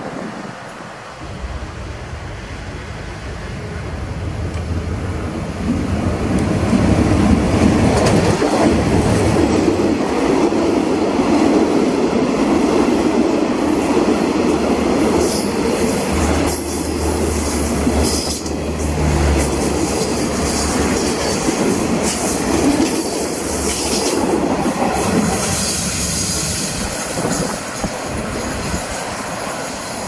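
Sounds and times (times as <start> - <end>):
deep train hum: 0.0 - 30.0
train wheels rumbling on rails: 0.0 - 30.0.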